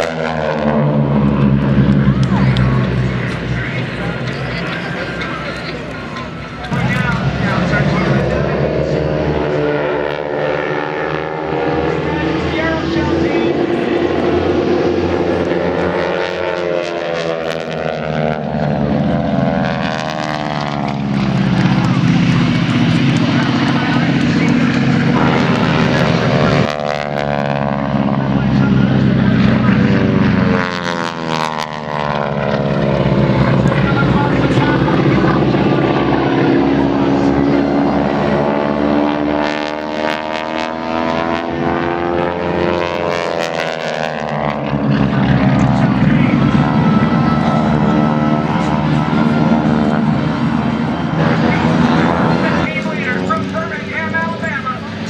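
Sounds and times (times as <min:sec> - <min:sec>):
propeller airplane flying past: 0:00.0 - 0:55.0.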